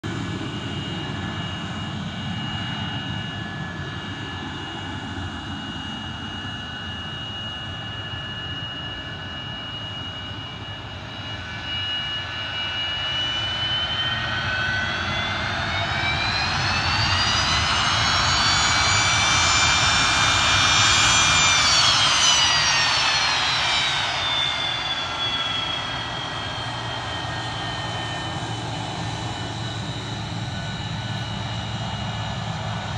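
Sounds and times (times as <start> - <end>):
jet engines whining and rumbling: 0.0 - 32.9.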